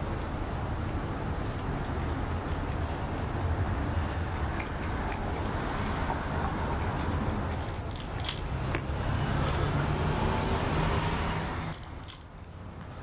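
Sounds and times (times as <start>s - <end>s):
road noise: 0.0s - 13.0s
vehicle engine hum passing: 2.5s - 13.0s.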